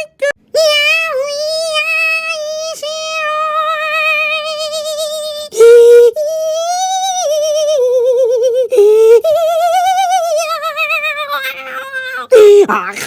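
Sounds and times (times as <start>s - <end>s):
high-pitched voice singing: 0.0s - 13.0s.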